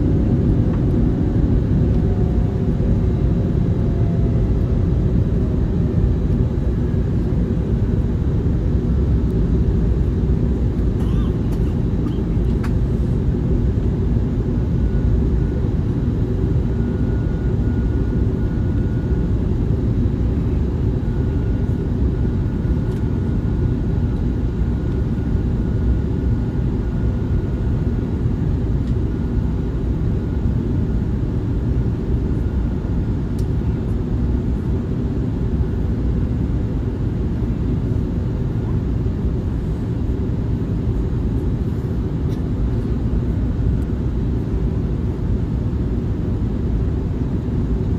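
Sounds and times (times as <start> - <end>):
airliner engines and airflow rumble: 0.0 - 47.9.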